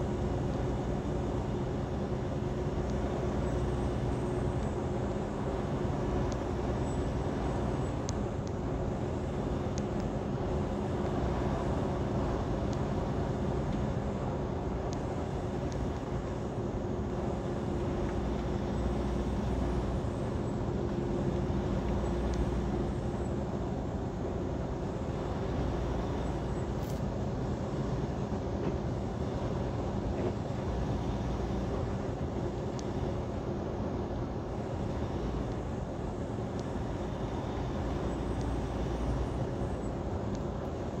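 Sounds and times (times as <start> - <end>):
truck diesel engine drone: 0.0 - 41.0
tyres on road: 0.0 - 41.0.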